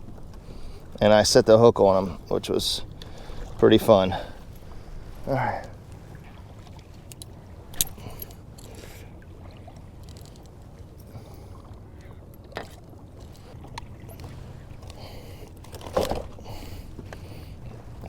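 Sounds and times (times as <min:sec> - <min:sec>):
low wind: 0:00.0 - 0:18.0
water around a kayak: 0:00.0 - 0:18.0.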